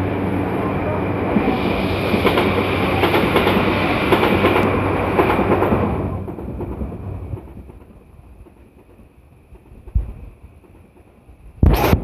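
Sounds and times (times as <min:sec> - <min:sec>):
train passing: 0:00.0 - 0:11.6.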